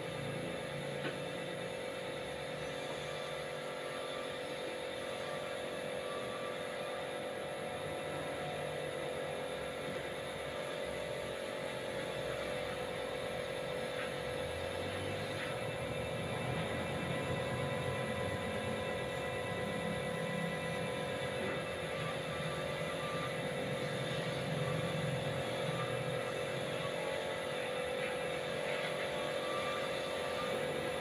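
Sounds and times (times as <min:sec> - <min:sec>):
air compressor humming: 0:00.0 - 0:31.0.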